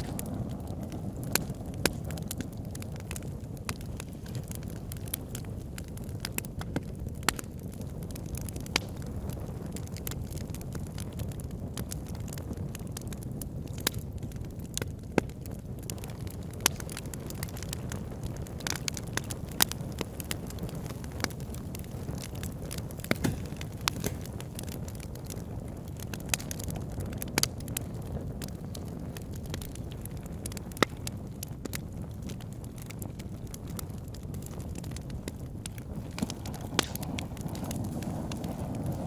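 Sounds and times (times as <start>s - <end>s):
fire crackles and pops: 0.0s - 39.0s
rush of flames: 0.0s - 39.0s.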